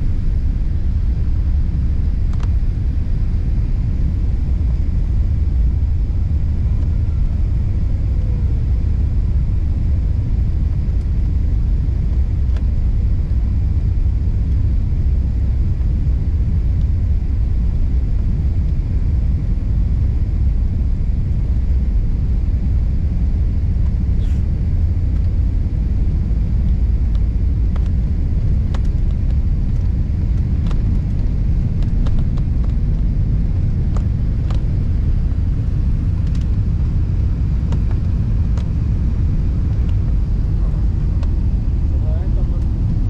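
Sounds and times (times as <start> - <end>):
jet airliner cabin rumble: 0.0 - 43.0.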